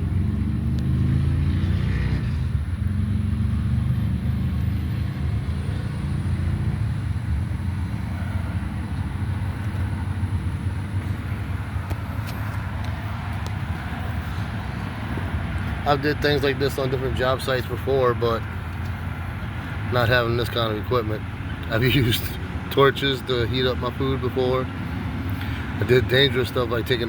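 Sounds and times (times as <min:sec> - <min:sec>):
vehicle engine idling: 0:04.5 - 0:27.0.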